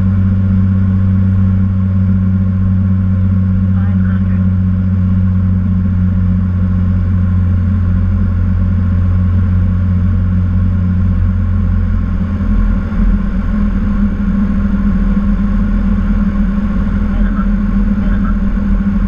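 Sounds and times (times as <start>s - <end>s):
aircraft engine and propeller droning: 0.0s - 19.0s.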